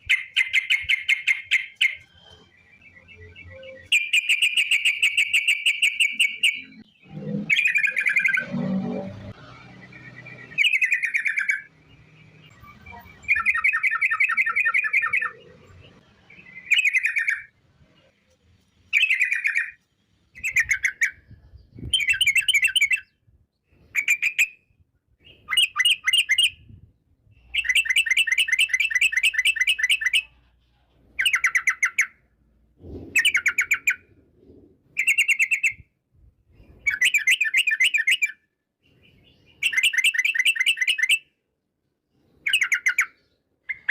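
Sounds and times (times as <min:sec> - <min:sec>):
bird singing rolling trills: 0:00.0 - 0:32.4, 0:33.2 - 0:35.9, 0:36.6 - 0:41.4.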